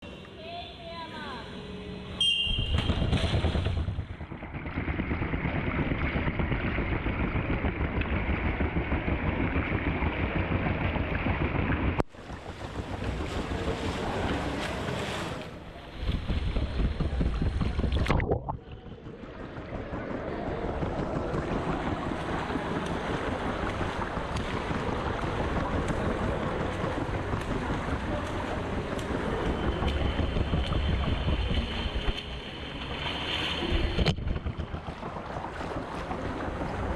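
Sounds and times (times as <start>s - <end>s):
low rumble on microphone: 2.4s - 36.9s
water splashing and sloshing: 2.5s - 36.9s.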